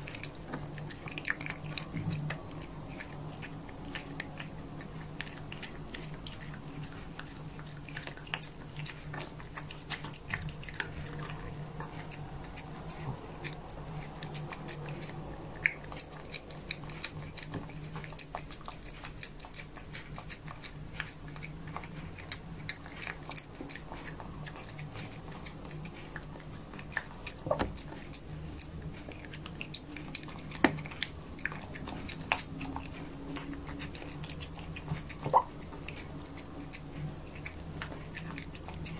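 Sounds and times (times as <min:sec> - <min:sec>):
cat chewing crunchy food: 0:00.0 - 0:38.9.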